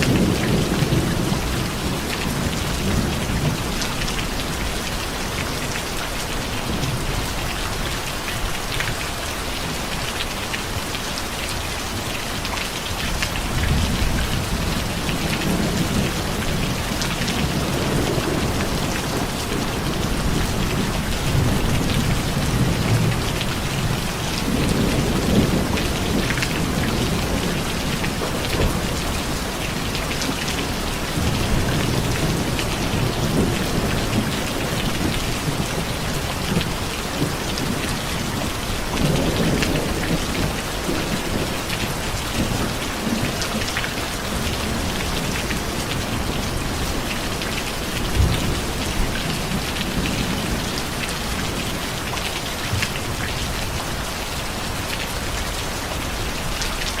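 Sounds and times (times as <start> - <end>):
low thunder rumbles: 0.0 - 5.4, 13.1 - 54.1
heavy rain: 0.0 - 57.0.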